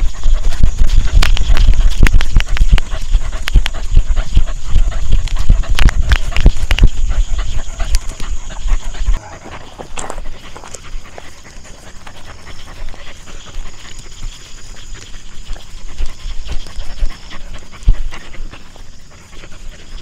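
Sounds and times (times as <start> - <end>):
scuffs and clicks of movement: 0.0 - 19.9
dog panting: 0.0 - 20.0.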